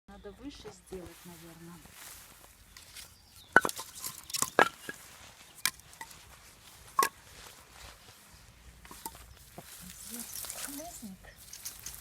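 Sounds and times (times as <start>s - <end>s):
dry sticks cracking: 2.0s - 12.0s.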